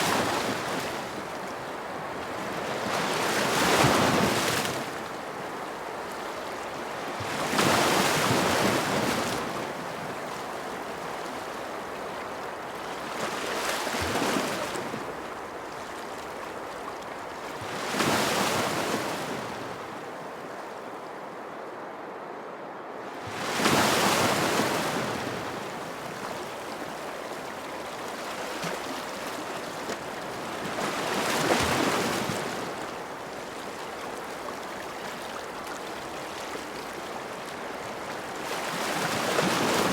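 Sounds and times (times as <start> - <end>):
ocean waves breaking on shore: 0.0 - 22.3, 23.0 - 39.9.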